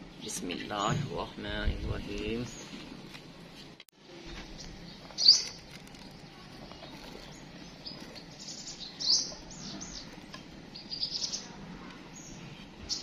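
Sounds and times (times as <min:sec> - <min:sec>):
small birds chirping: 0:00.0 - 0:03.1, 0:04.4 - 0:13.0.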